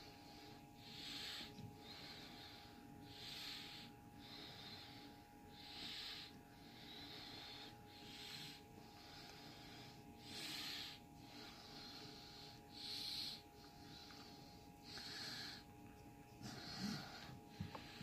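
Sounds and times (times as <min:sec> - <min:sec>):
faint steady hum: 0:00.0 - 0:18.0
person breathing through nose: 0:00.1 - 0:18.0.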